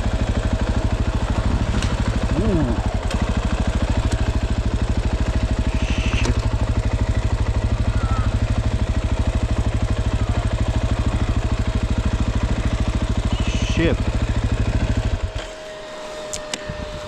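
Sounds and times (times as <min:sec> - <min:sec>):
dirt bike engine idling: 0:00.0 - 0:17.0.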